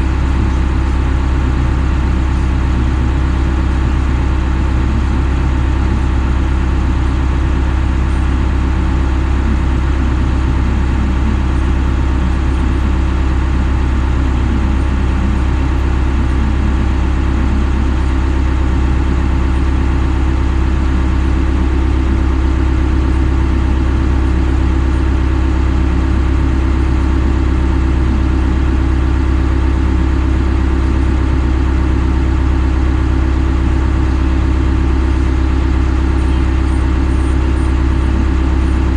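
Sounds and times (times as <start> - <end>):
large engine idling: 0.0 - 38.9.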